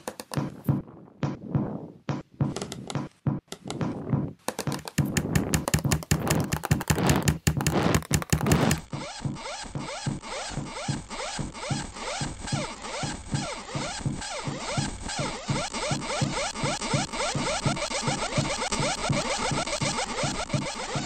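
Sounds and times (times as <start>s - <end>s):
processed percussive clicks and knocks: 0.0s - 21.0s.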